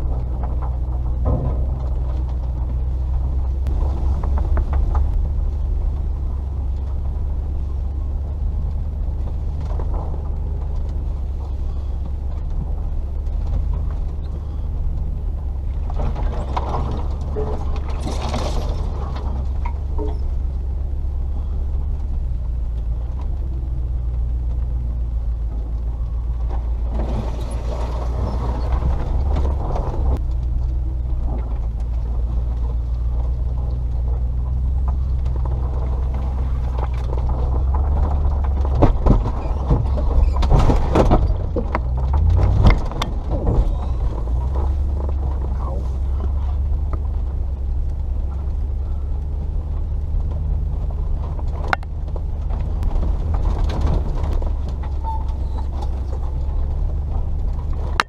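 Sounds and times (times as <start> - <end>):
car engine running at low revs: 0.0 - 58.0
rustling and rattling noise: 0.0 - 58.0.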